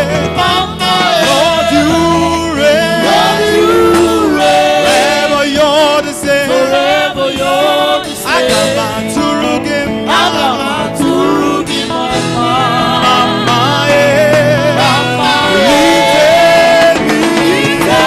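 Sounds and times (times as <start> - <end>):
instrumental backing: 0.0 - 18.0
voices singing gospel: 0.0 - 18.0.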